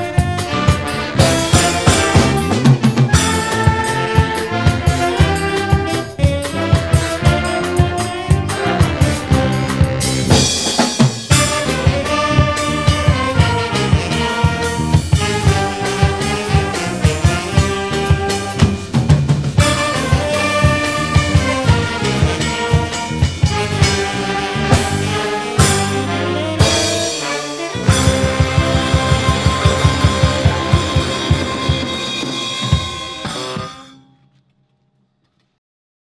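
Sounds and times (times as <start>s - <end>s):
brass horns playing tune: 0.0s - 33.9s
driving drum beat: 0.0s - 33.9s.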